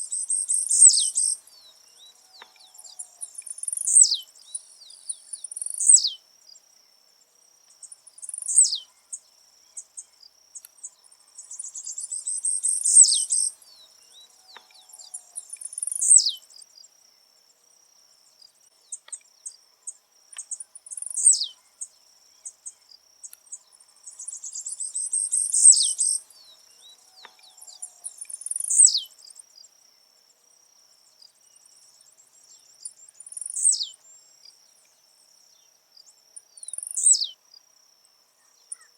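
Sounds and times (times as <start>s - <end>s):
bird buzzy song: 0.0s - 37.7s.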